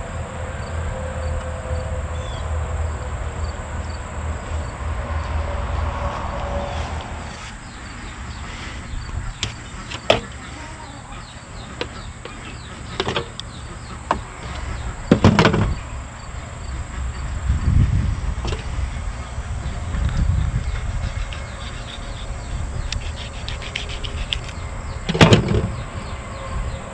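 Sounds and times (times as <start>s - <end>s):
low rumble: 0.0s - 25.1s
crickets chirping: 0.0s - 26.9s.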